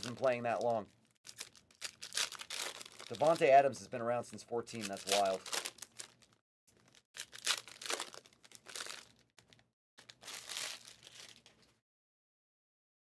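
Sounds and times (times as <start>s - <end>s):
card wrappers crinkling: 0.0s - 3.8s, 4.6s - 11.8s.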